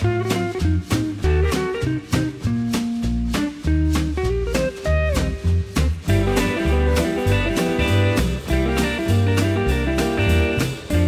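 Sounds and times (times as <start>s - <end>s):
jazzy background music: 0.0s - 11.0s.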